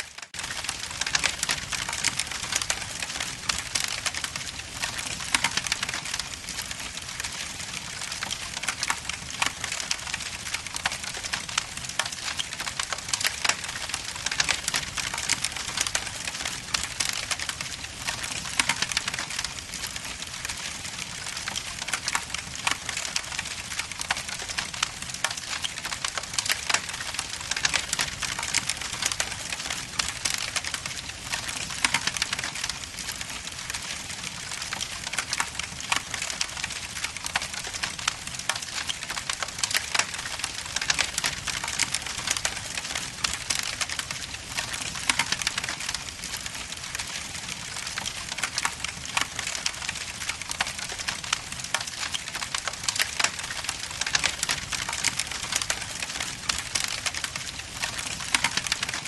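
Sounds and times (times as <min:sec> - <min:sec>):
fire crackling and popping: 0:00.1 - 0:59.0.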